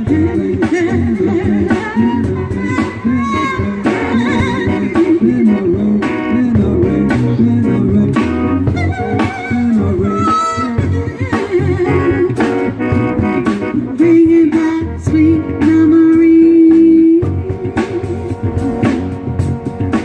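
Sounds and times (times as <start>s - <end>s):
blues soul band playing: 0.0s - 20.0s.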